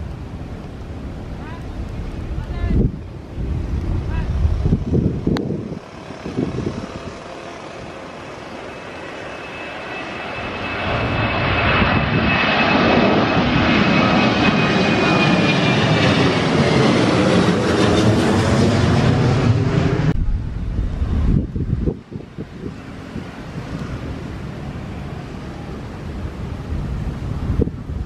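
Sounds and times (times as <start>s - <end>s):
high jet whine: 0.0s - 28.0s
jet engine roar: 0.0s - 28.0s.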